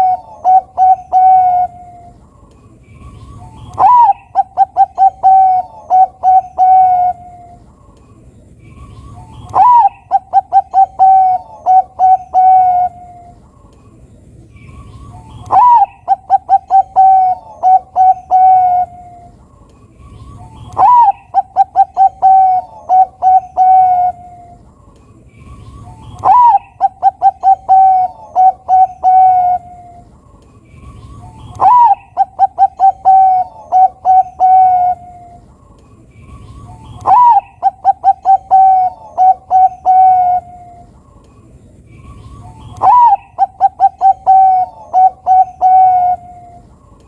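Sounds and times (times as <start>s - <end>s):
dove cooing song: 0.0s - 13.6s, 14.5s - 41.2s, 41.9s - 47.0s.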